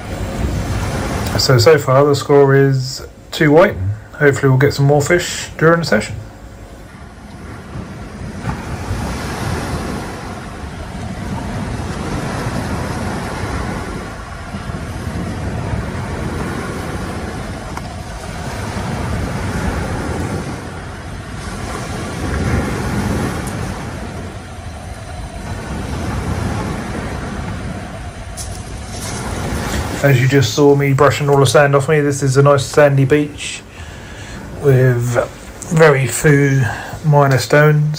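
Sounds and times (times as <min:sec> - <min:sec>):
wind on microphone: 0:00.0 - 0:02.1, 0:05.9 - 0:37.4
surf on sandy beach: 0:00.0 - 0:37.9.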